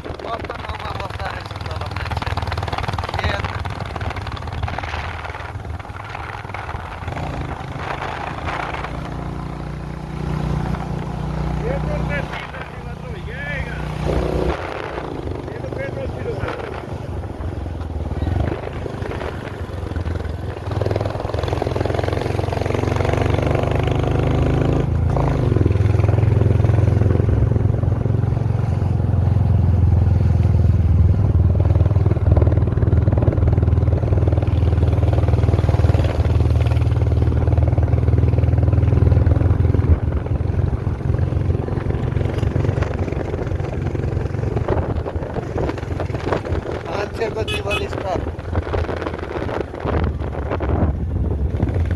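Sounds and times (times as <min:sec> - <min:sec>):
road noise: 0:00.0 - 0:51.9
vehicle engine running: 0:00.0 - 0:51.9.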